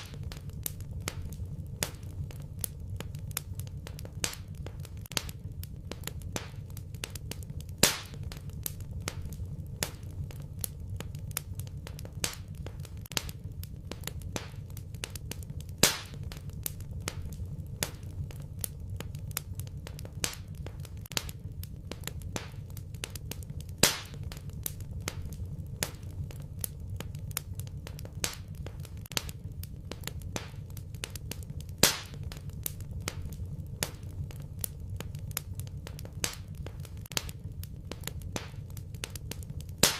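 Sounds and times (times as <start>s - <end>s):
loud fire pops: 0.0s - 39.9s
low steady rumble: 0.0s - 39.9s
wood fire crackling: 0.0s - 39.9s.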